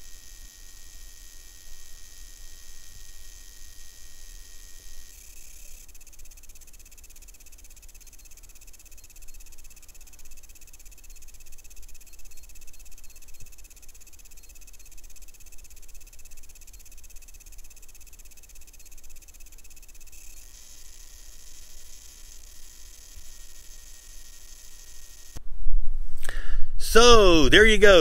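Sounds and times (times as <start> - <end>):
electronic buzz with chirring pulse: 0.0 - 25.4.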